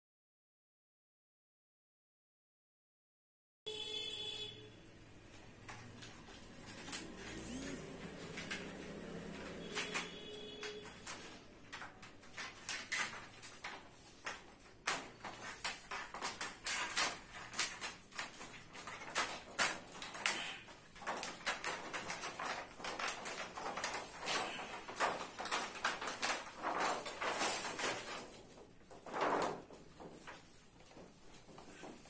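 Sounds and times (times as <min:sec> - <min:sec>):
reflector sheet crinkling and crackling: 0:05.0 - 0:32.0.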